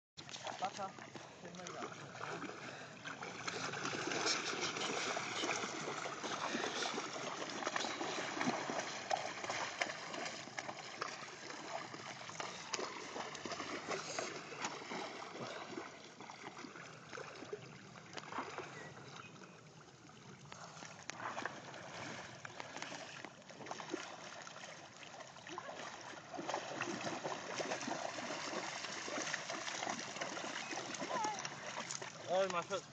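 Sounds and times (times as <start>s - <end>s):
water splashing and sloshing: 0.2s - 32.9s.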